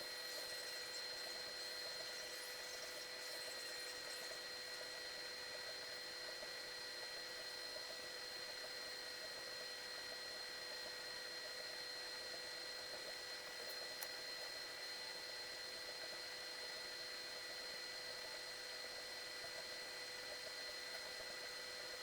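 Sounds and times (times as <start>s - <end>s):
constant high whine: 0.0s - 22.0s.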